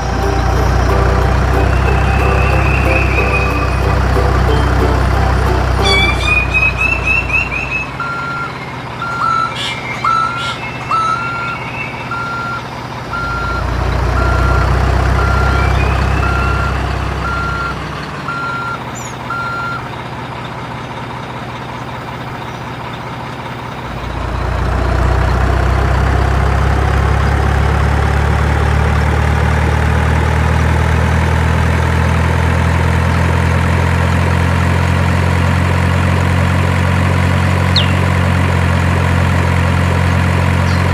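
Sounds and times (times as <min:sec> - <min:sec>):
low engine hum: 0:00.0 - 0:40.9
truck reversing beeps: 0:00.0 - 0:40.9.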